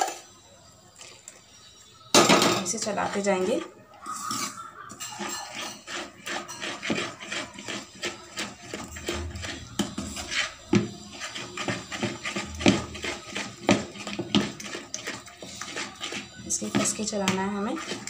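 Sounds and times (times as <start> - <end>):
spatula scraping a bowl: 2.6 - 18.0.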